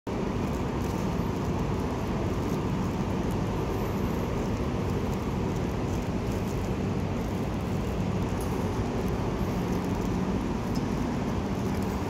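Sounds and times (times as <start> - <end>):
railway station hall ambience: 0.1 - 12.0.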